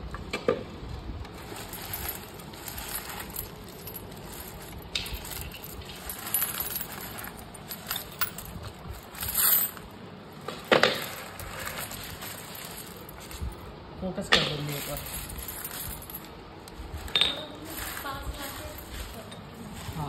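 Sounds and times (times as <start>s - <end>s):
banknotes rustling: 1.3s - 13.6s, 14.5s - 20.0s
coins clinking: 1.4s - 13.7s, 14.5s - 16.4s, 17.0s - 20.0s.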